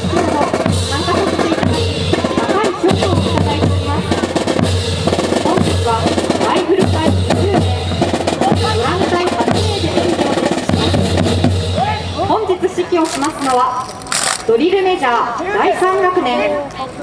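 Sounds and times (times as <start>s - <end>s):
marching drums: 0.0s - 14.5s.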